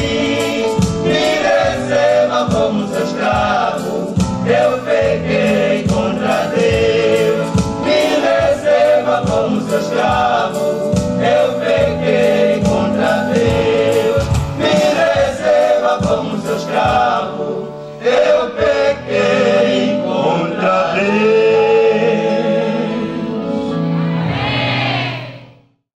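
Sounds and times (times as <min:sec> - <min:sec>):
male vocal group singing: 0:00.0 - 0:25.1.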